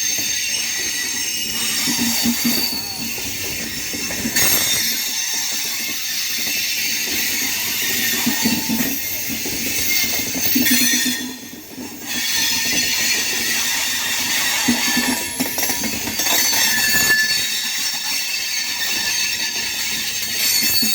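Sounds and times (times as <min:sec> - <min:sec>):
train wheels on track: 0:00.0 - 0:20.9
wheel squeals: 0:00.0 - 0:20.9.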